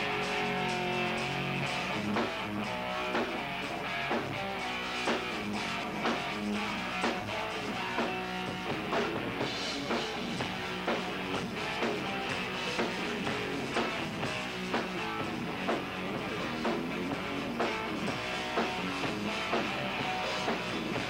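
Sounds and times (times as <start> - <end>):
drum beat: 0.0 - 21.0
rock band playing live: 0.0 - 21.0.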